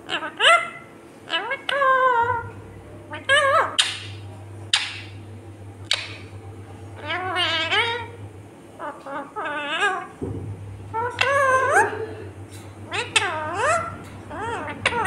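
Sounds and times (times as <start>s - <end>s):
parakeet calling: 0.0s - 8.2s, 8.8s - 10.2s, 10.8s - 15.0s
steady low hum: 0.0s - 15.0s.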